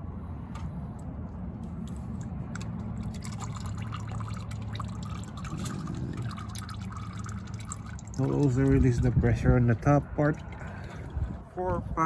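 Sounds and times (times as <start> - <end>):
steady low hum: 0.0 - 12.0
oil trickling and dripping: 1.7 - 11.5.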